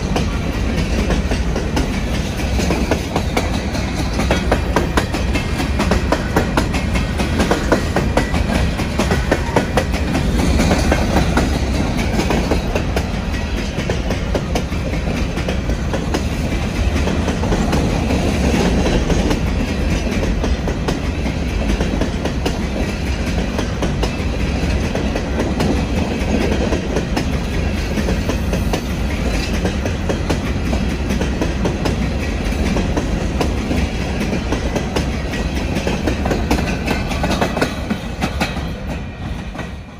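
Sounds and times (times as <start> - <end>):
steel wheels rumbling: 0.0 - 39.9.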